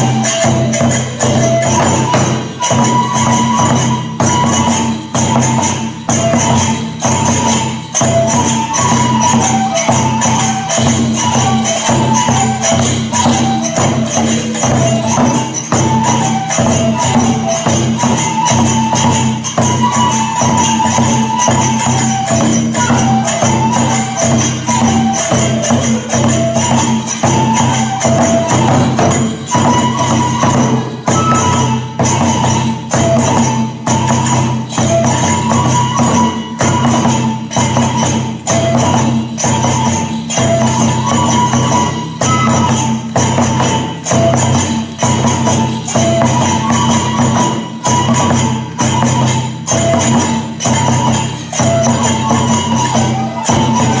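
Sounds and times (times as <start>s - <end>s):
high bamboo flute melody: 0.0s - 54.0s
small hand cymbals jangling: 0.0s - 54.0s
taiko drumbeats: 0.0s - 54.0s.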